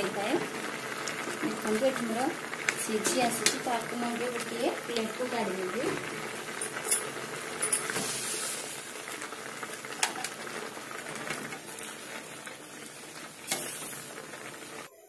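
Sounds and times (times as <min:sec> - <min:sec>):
water boiling and bubbling: 0:00.0 - 0:15.0.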